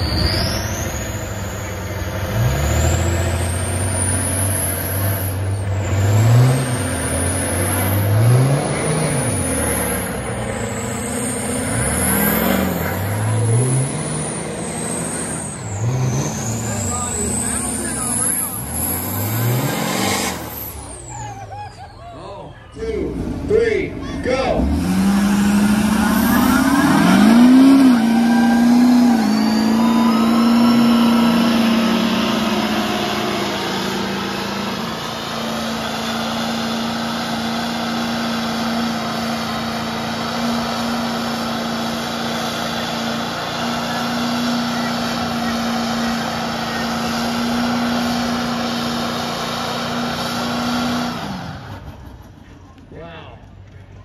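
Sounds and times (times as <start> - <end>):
diesel truck engines revving: 0.0 - 54.0.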